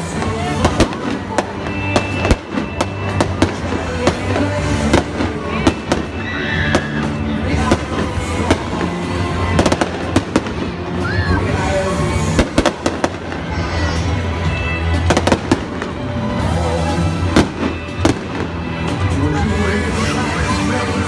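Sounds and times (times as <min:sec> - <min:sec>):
fireworks bangs: 0:00.0 - 0:19.2
music playing: 0:00.0 - 0:21.0.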